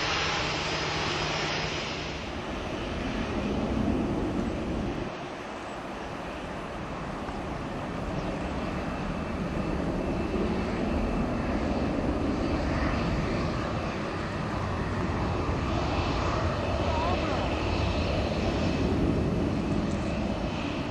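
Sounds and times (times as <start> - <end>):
jet engine rumble: 0.0 - 20.9.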